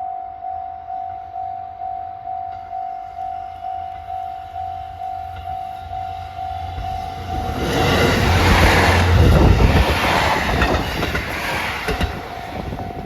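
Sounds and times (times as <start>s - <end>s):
diesel train passing: 0.4s - 13.0s.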